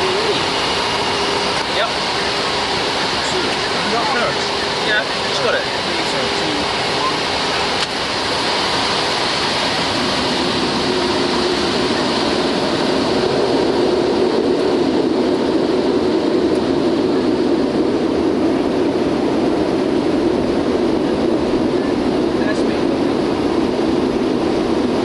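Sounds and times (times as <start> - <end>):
jet engines rumbling in cockpit: 0.0 - 25.0.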